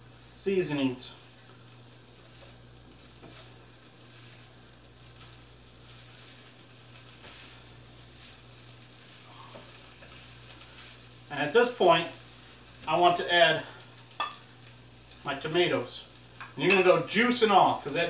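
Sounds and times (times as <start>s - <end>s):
chicken sizzling in a skillet: 0.0s - 18.0s.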